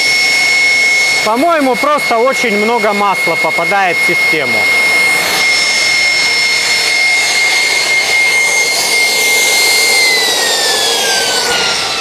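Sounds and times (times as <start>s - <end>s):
gas turbine whine: 0.0s - 12.0s.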